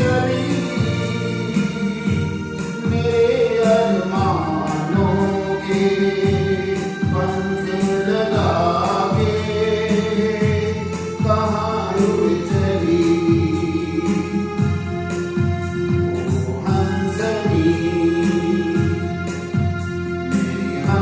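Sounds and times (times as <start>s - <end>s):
instrumental backing: 0.0s - 21.0s
person singing: 0.0s - 21.0s
steady drum beat: 0.0s - 21.0s.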